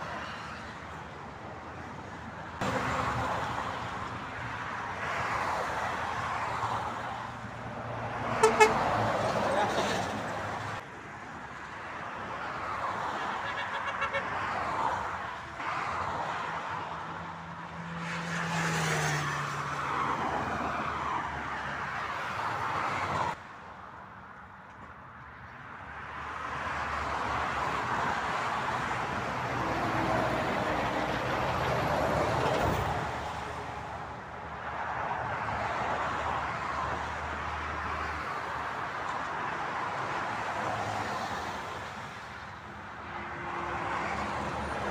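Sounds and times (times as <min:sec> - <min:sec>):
cars and trucks passing: 0:00.0 - 0:44.9.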